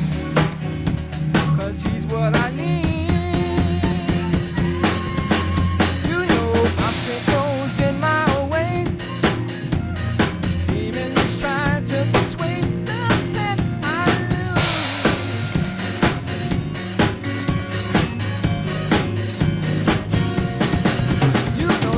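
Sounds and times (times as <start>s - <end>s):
bass guitar: 0.0s - 21.9s
drum kit beat: 0.0s - 21.9s
gospel band playing: 0.0s - 21.9s
wavering lead melody: 0.0s - 21.9s.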